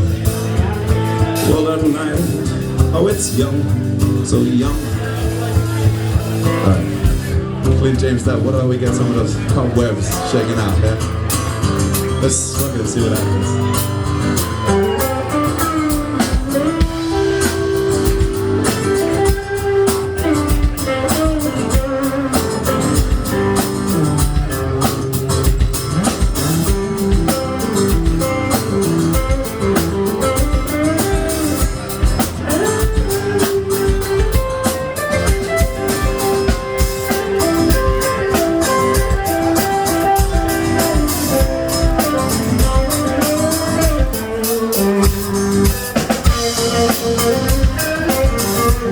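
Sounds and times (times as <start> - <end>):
drum kit: 0.0 - 48.9
guitar bending sliding notes: 9.0 - 48.9.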